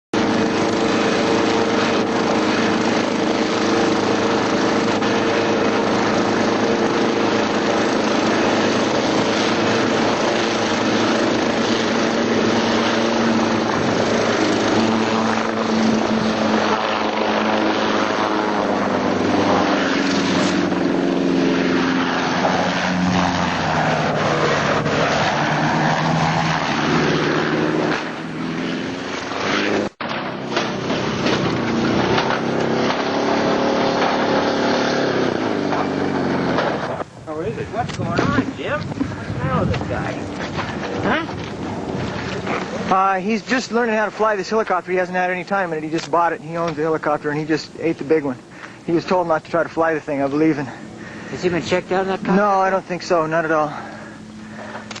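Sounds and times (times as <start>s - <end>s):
helicopter engine and rotor: 0.1s - 55.0s.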